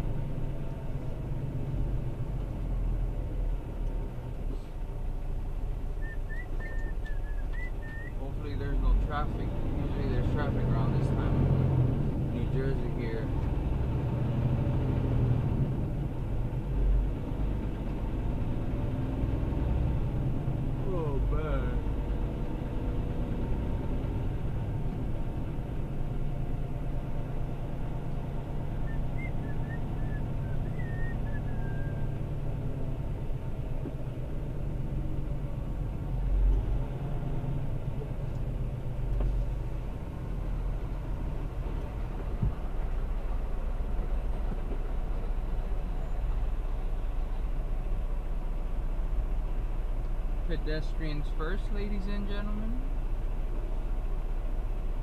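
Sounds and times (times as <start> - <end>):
diesel truck engine running: 0.0 - 55.0
low road rumble: 0.0 - 55.0.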